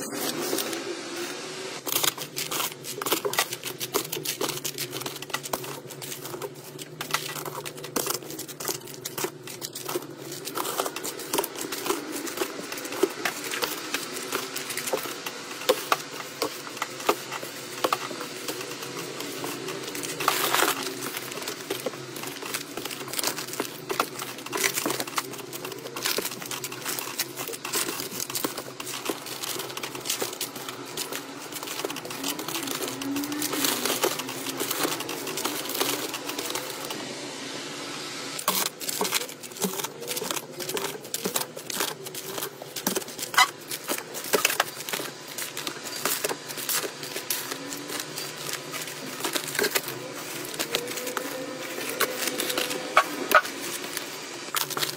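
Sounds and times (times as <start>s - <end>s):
plastic wrapping crinkling: 0.0s - 37.0s, 38.4s - 54.9s.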